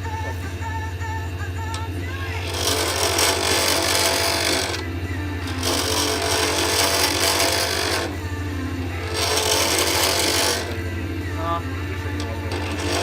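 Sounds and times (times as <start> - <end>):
lathe motor humming: 0.0 - 13.0
turning tool scraping acrylic: 1.6 - 13.0.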